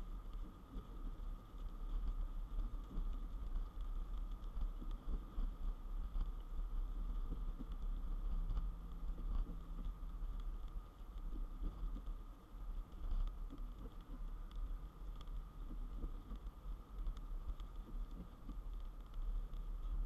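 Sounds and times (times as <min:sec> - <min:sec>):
rain ticking on windshield: 0:00.0 - 0:20.0.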